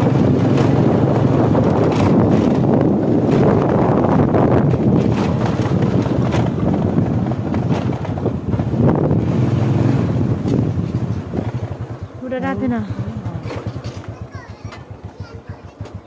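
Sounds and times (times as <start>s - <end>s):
motorbike engine running: 0.0s - 16.0s
wind buffeting microphone: 0.0s - 16.0s.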